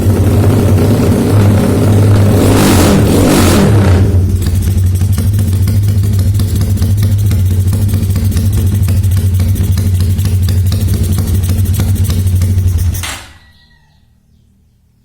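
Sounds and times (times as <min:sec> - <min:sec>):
motorcycle idling with choppy exhaust: 0:00.0 - 0:02.4, 0:03.0 - 0:13.4.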